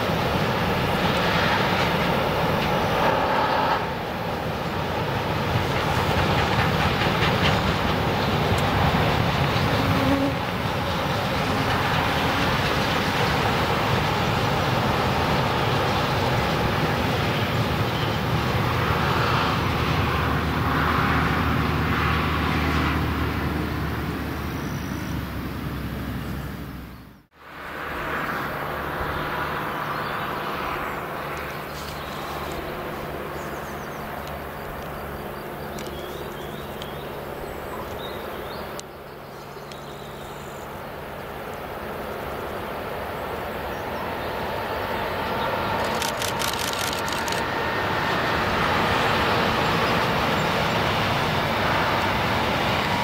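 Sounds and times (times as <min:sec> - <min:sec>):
distant train rumble: 0:00.0 - 0:53.0
freight train rolling past: 0:00.0 - 0:53.0.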